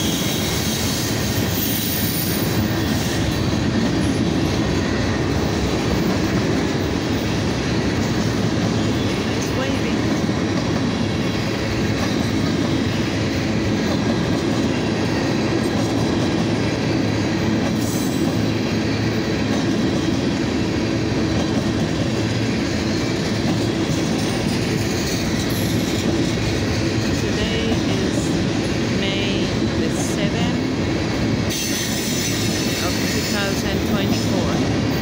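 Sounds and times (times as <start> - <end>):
freight train rolling past: 0.0 - 35.0.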